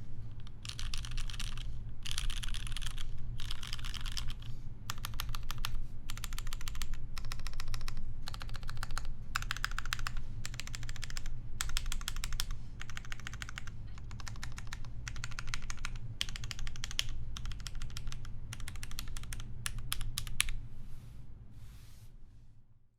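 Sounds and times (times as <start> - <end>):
mechanical keyboard typing: 0.4 - 20.6.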